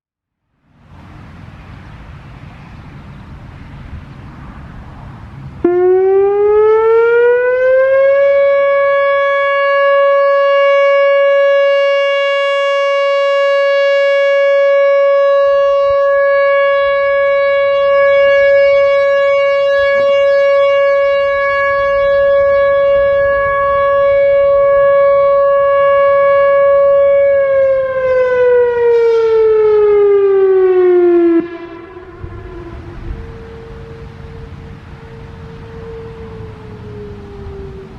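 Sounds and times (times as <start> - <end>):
outdoor warning siren: 0.3 - 37.9.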